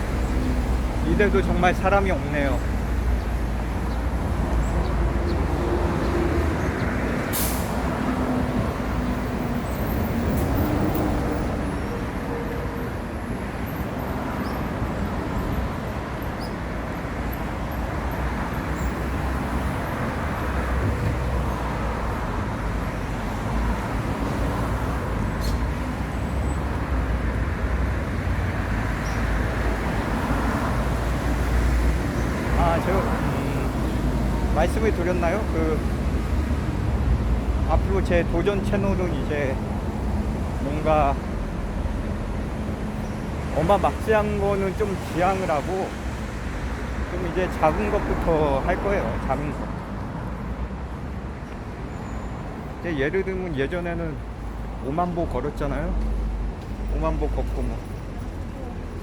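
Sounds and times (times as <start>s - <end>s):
vehicles passing: 0.0s - 59.0s.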